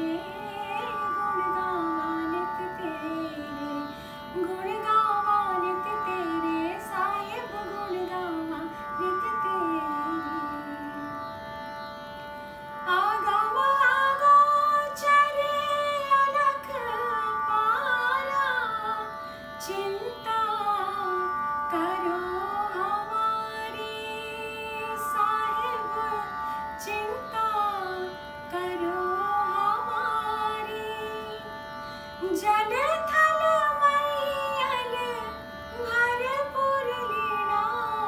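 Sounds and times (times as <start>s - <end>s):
woman singing devotional song: 0.0s - 11.2s, 12.8s - 31.5s, 32.2s - 38.0s.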